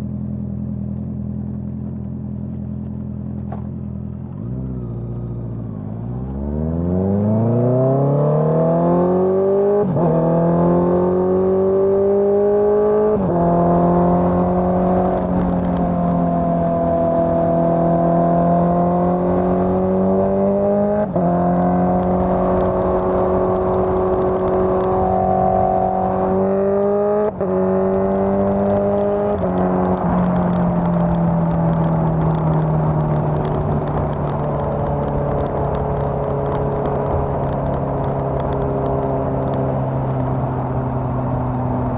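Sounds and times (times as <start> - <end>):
motorcycle engine revving: 4.3 - 41.9.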